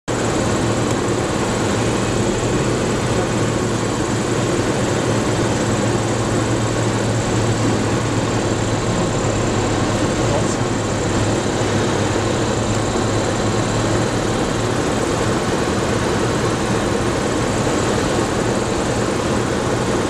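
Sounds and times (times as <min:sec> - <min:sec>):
small plane engine droning: 0:00.1 - 0:20.0.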